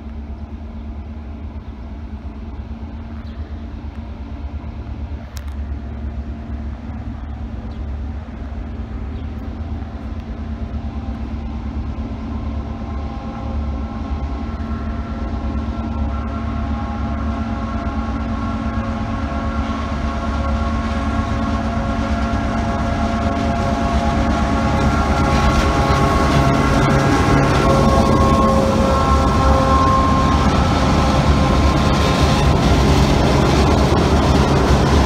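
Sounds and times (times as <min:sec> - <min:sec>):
locomotive engines droning: 0:00.0 - 0:35.0.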